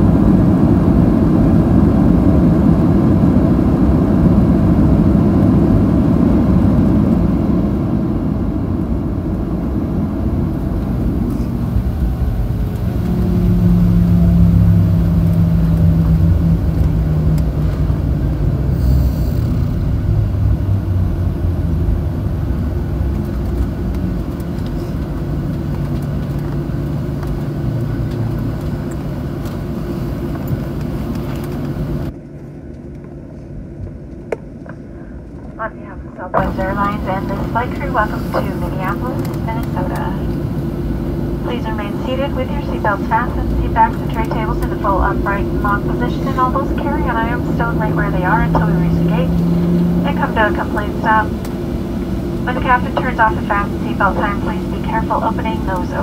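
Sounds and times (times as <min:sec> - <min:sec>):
jet engines and wheels rumbling: 0:00.0 - 0:56.0.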